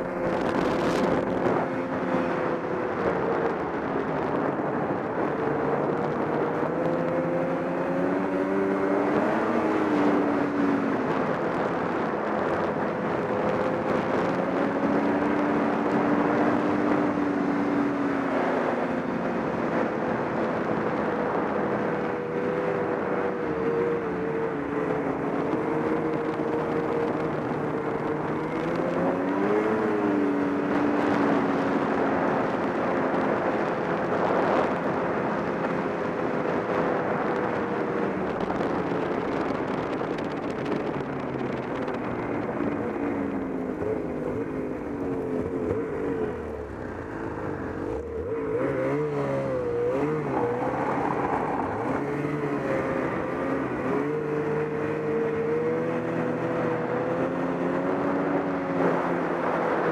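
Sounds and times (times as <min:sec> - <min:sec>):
rushing travel noise: 0:00.0 - 0:59.9
snowmobile engine running: 0:00.0 - 0:59.9.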